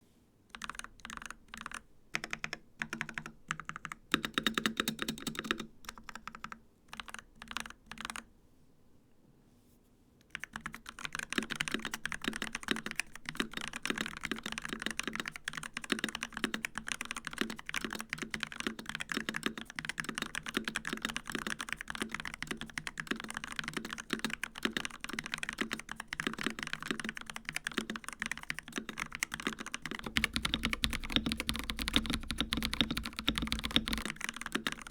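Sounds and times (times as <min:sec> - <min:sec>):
mechanical keyboard typing: 0:00.5 - 0:08.3, 0:10.3 - 0:34.9.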